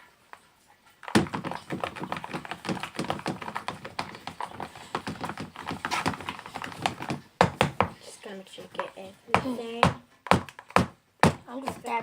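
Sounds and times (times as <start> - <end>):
utensil tapping bowl: 1.0 - 12.0.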